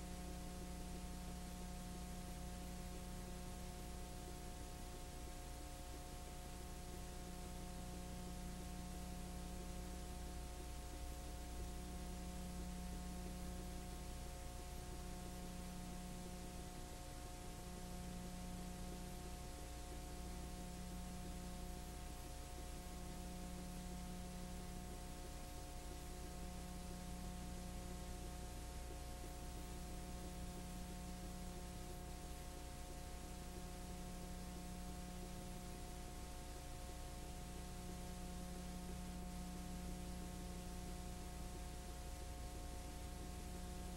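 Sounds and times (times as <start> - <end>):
electrical hum and hiss: 0.0 - 43.9.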